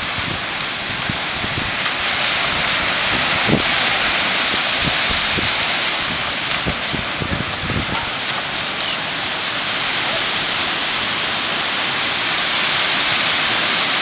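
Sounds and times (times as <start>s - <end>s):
wind buffeting microphone: 0.0s - 11.5s
surf waves hissing on beach: 0.0s - 14.0s.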